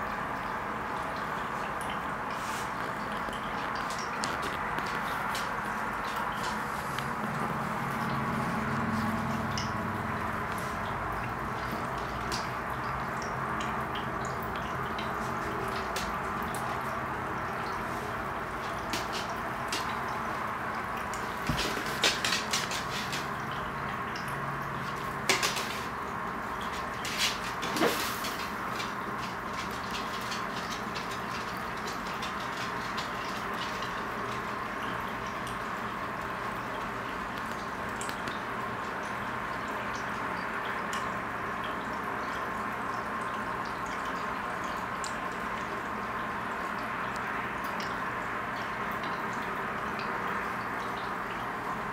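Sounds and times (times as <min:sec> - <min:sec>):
aquarium water hissing: 0:00.0 - 0:51.9
small drips and pops: 0:00.0 - 0:51.9.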